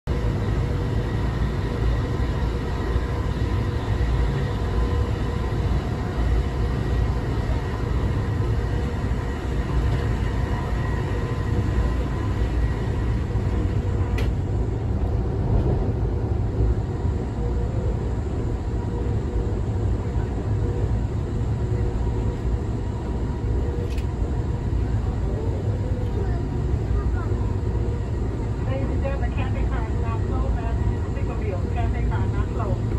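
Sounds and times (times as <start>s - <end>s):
train wheels rumbling on rail: 0.1s - 32.9s.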